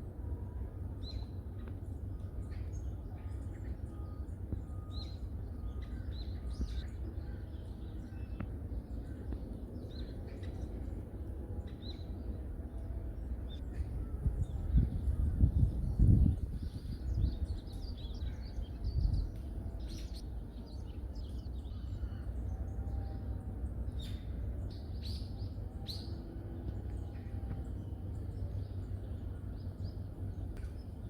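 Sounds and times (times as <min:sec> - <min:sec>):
low background rumble: 0:00.0 - 0:31.0.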